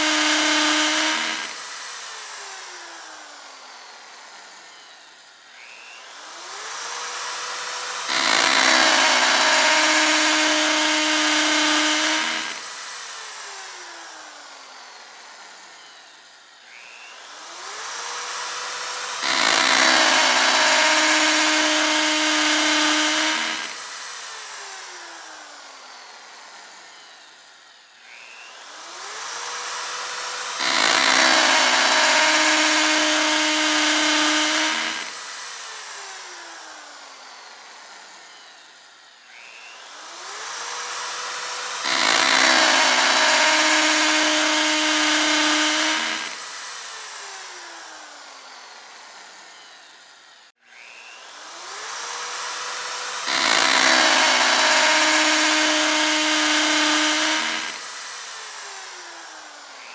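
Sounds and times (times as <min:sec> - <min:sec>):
electric drill whining: 0:00.0 - 0:59.9.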